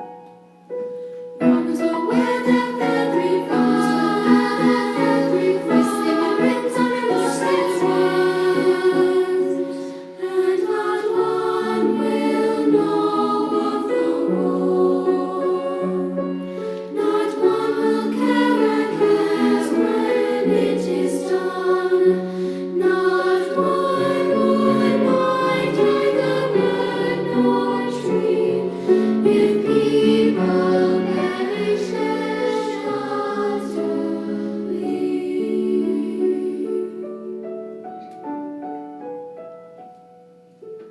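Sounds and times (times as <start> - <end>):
treble choir singing: 1.3 - 37.8.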